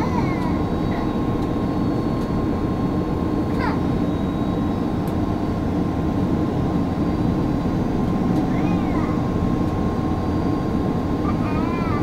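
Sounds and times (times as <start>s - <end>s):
airliner cabin rumble: 0.0s - 12.0s
thin steady whine: 0.0s - 12.0s.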